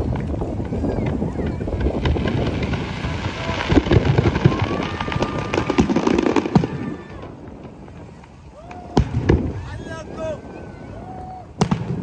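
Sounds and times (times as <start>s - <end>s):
fireworks banging and popping: 0.0s - 10.8s, 11.6s - 12.0s.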